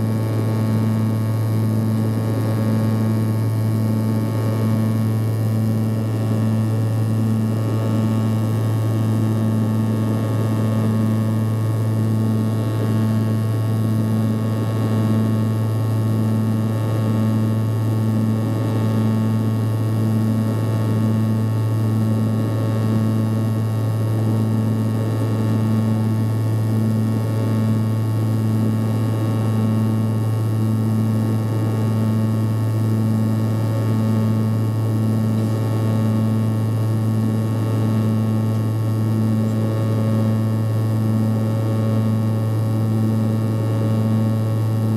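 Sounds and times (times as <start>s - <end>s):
turboprop drone in cabin: 0.0s - 44.9s.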